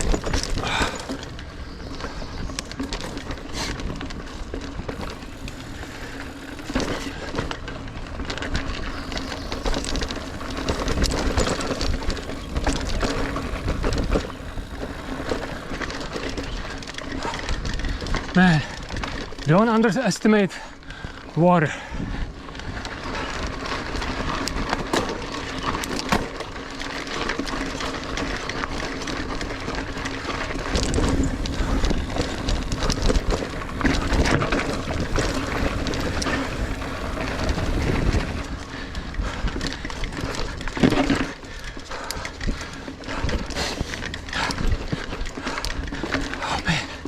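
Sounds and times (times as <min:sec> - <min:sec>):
bike rattling over roots: 0:00.0 - 0:47.0
bike tyres rolling on dirt: 0:00.0 - 0:47.0.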